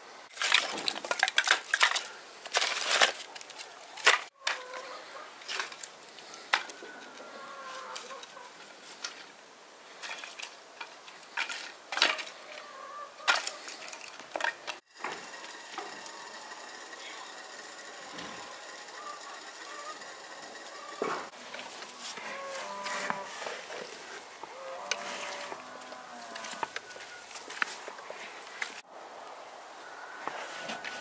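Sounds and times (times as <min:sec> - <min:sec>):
wooden sticks clattering: 0:00.3 - 0:04.8, 0:05.4 - 0:07.2, 0:09.9 - 0:28.8.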